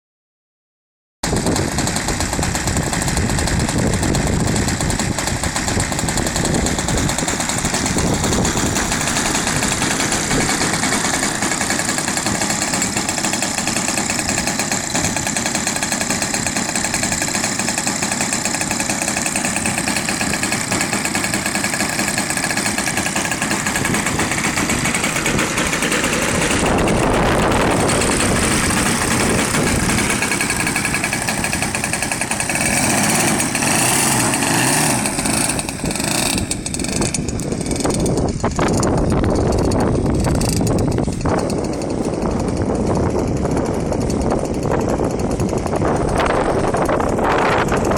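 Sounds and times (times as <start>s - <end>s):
model plane engine drone: 1.2s - 47.9s.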